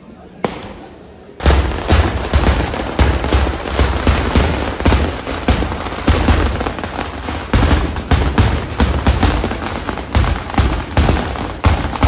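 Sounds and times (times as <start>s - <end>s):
fireworks bangs and crackling: 0.4s - 12.0s
deep booms: 0.5s - 12.0s.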